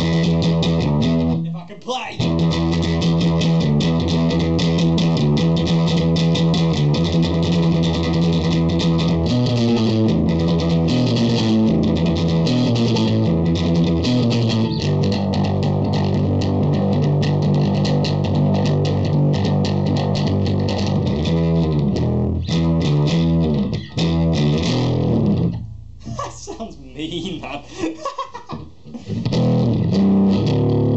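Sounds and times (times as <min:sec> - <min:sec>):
distorted bass guitar riff: 0:00.0 - 0:27.6, 0:28.5 - 0:30.9.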